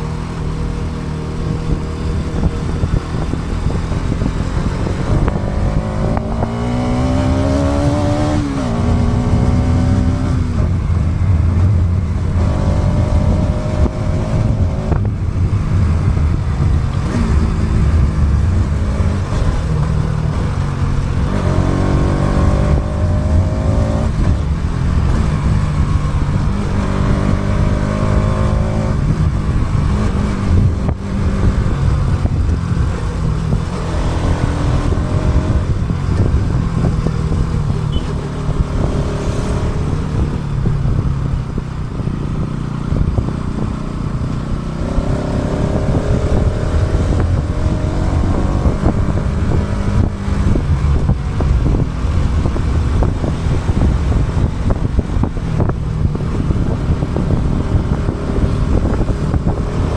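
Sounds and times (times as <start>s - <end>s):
motorcycle engine accelerating: 0.0s - 59.9s
wind rumble on microphone: 0.0s - 59.9s.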